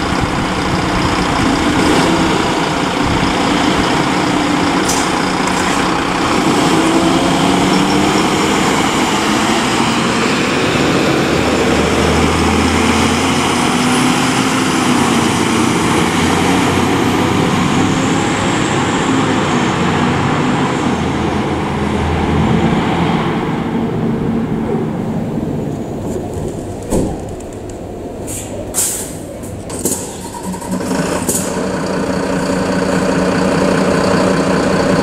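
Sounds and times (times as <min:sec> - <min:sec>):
deep engine drone: 0:00.0 - 0:35.0
fire trucks driving away: 0:00.0 - 0:35.0.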